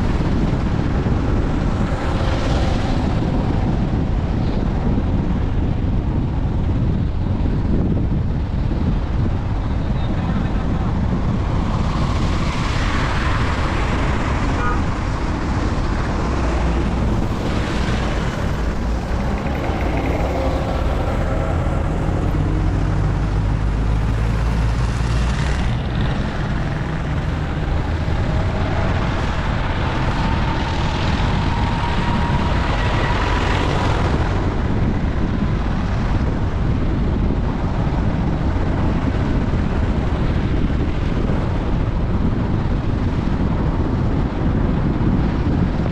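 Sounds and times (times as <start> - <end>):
vehicle engine and tyre rumble: 0.0 - 45.9
wind buffeting microphone: 0.0 - 45.9.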